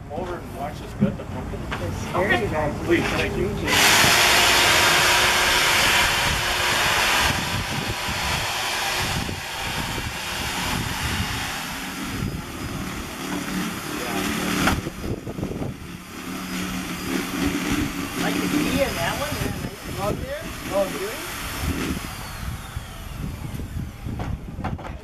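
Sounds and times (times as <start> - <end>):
electric drill scraping pumpkin: 3.0 - 25.0.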